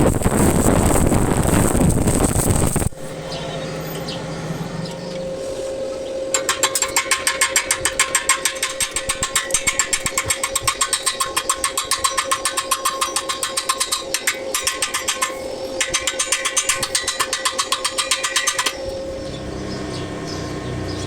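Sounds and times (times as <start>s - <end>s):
welding arc crackling: 0.0s - 4.0s, 6.3s - 19.2s
steady hum: 0.0s - 21.0s.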